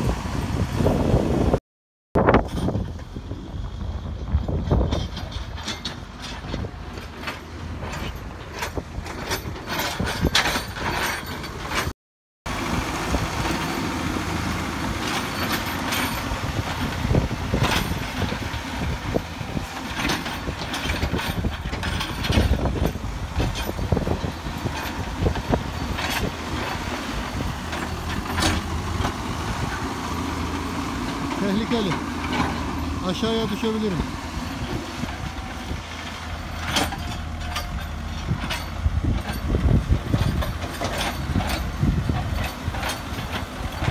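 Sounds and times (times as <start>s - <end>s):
diesel engines running: 0.0s - 1.6s, 2.2s - 11.9s, 12.5s - 43.9s
knocks and clanks: 4.4s - 11.9s, 14.9s - 43.9s.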